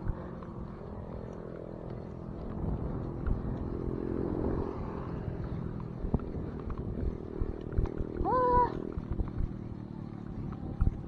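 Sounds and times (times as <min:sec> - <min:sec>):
wind on microphone: 0:00.0 - 0:09.6
bicycle road rumble: 0:00.0 - 0:11.0
motor engine passing: 0:00.0 - 0:11.0.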